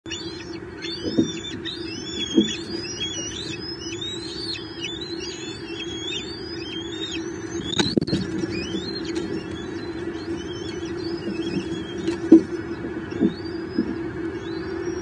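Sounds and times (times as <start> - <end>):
birds chirping and whistling: 0.1 - 15.0
steady low hum: 0.1 - 15.0.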